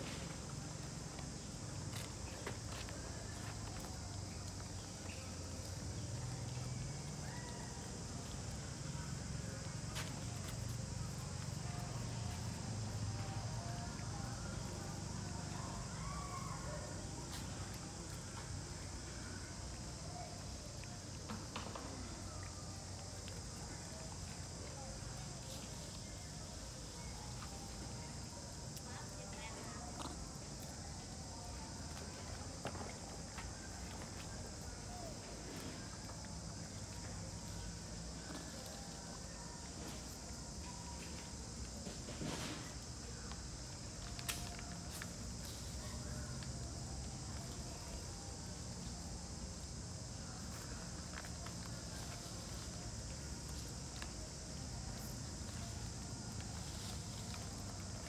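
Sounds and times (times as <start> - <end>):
rustle: 0.0 - 58.0.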